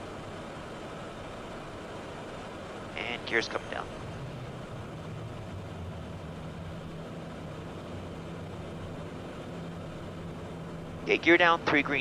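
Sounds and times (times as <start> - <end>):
airflow noise: 0.0 - 12.0
jet engine hum: 0.0 - 12.0.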